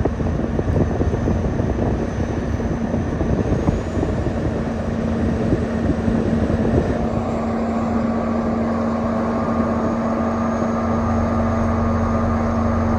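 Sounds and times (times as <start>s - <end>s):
low hum: 0.0s - 12.9s
vehicle rumble: 0.0s - 12.9s.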